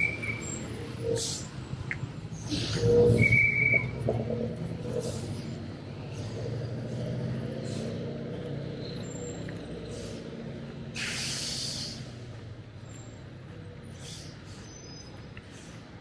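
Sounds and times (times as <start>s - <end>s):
low hum of traffic: 0.0s - 16.0s.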